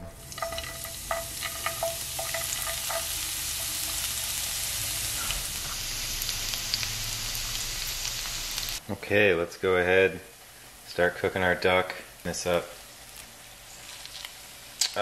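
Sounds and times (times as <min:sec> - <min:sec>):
shallots sizzling in oil: 0:00.1 - 0:08.9, 0:09.8 - 0:15.0.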